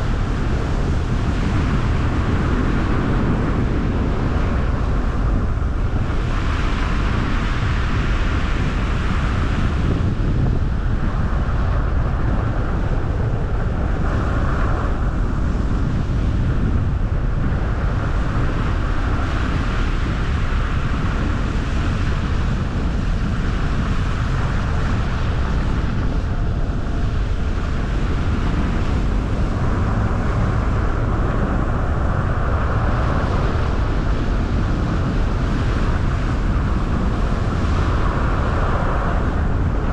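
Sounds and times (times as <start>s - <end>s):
road and tyre noise: 0.0s - 39.9s
wind noise: 0.0s - 39.9s.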